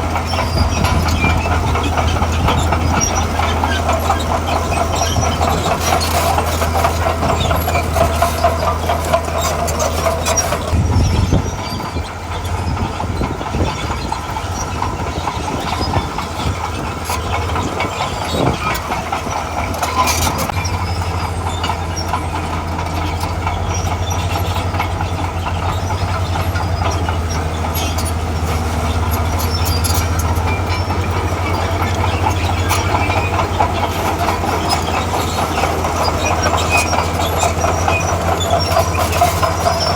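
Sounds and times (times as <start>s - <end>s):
steel tracks clanking: 0.0s - 39.9s.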